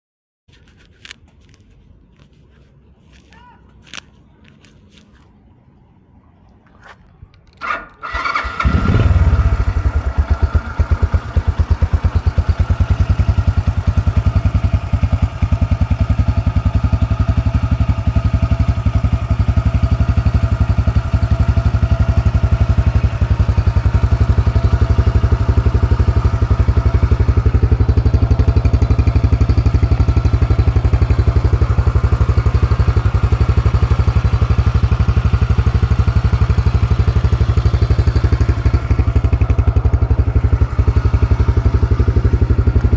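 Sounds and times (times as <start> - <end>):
motorcycle engine starting and idling: 7.2 - 42.9.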